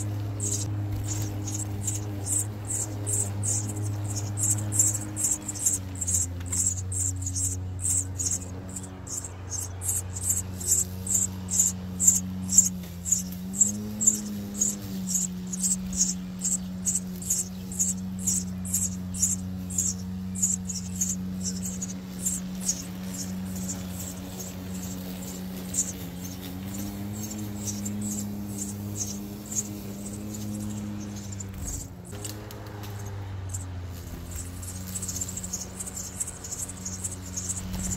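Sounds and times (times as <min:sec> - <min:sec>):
nestlings cheeping: 0:00.0 - 0:37.9
steady low hum: 0:00.0 - 0:37.9.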